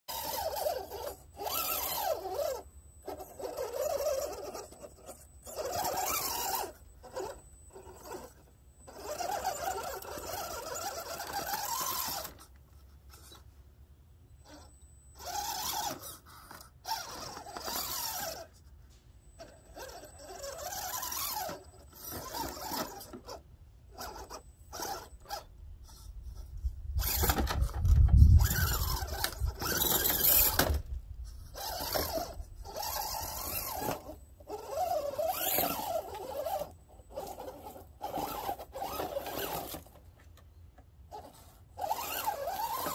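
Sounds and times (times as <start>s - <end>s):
small electric motor whirring: 0.1s - 13.6s, 14.4s - 40.1s, 41.1s - 42.9s.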